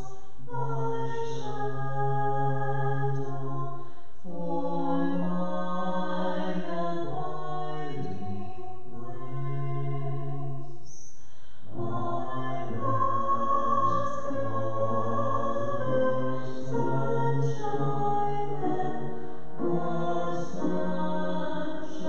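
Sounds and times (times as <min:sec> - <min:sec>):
woman and man singing a hymn: 0:00.0 - 0:10.6, 0:11.7 - 0:22.0.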